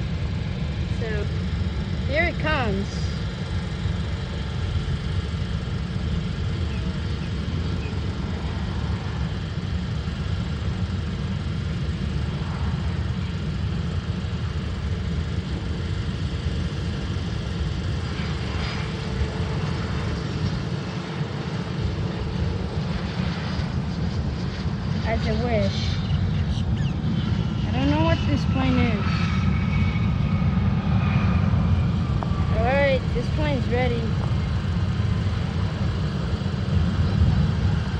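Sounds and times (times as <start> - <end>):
faint steady whine: 0.0 - 37.9
jet engines low rumble: 0.0 - 37.9.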